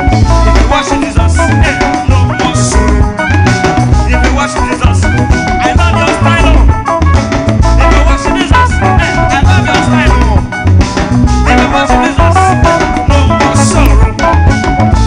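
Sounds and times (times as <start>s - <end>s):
upbeat dance music: 0.0s - 15.0s.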